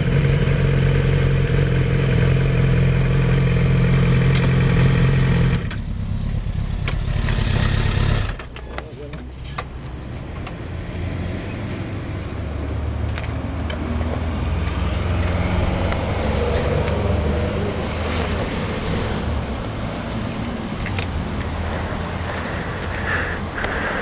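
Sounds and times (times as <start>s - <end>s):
motorcycle engine: 0.0s - 9.8s, 10.6s - 24.0s
wind and road noise: 0.0s - 24.0s.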